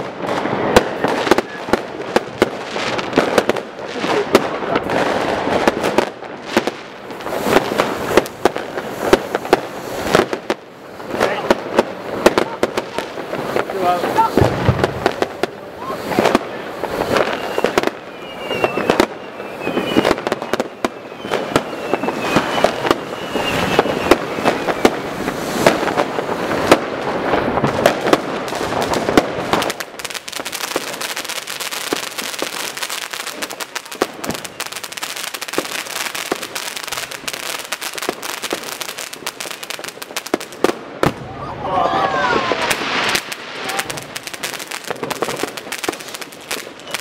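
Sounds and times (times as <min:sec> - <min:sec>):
firework bangs and crackle: 0:00.0 - 0:47.0.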